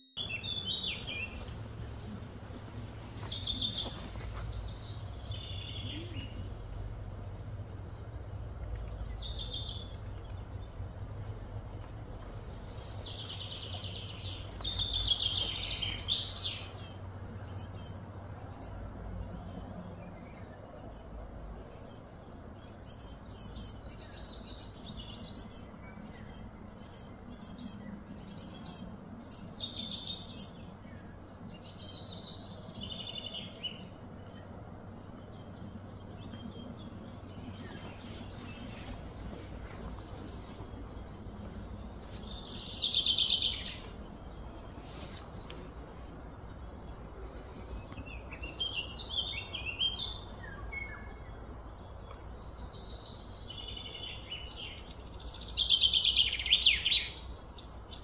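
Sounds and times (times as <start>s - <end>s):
birds chirping: 0.0s - 58.0s
low outdoor rumble: 0.2s - 58.0s.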